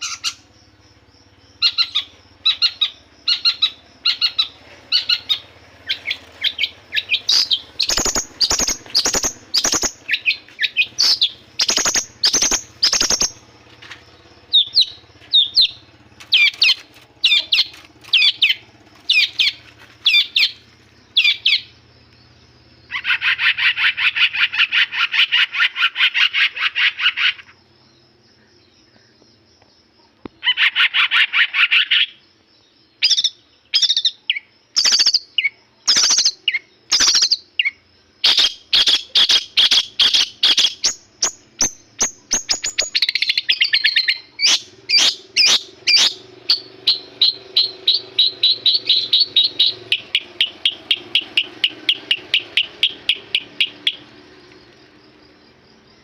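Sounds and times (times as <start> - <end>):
bird singing trills and chirps: 0.0 - 56.0.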